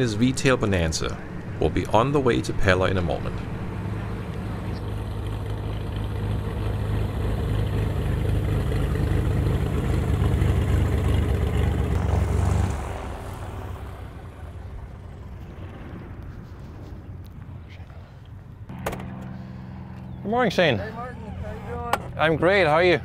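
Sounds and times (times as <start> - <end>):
propeller plane taxiing: 0.0 - 23.0.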